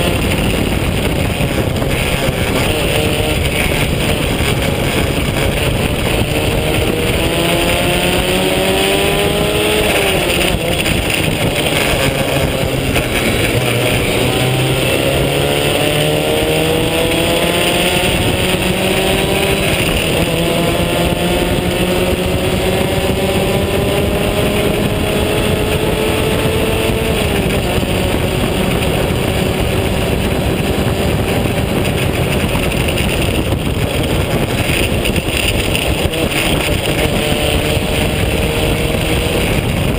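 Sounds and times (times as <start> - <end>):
race car engine revving: 0.0 - 39.9
wind noise on microphone: 0.0 - 39.9.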